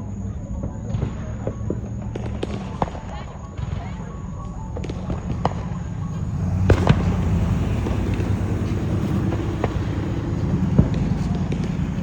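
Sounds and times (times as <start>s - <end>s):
fireworks bangs: 0.0s - 12.0s
steady low rumble: 0.0s - 12.0s
faint firework cracks: 0.2s - 12.0s.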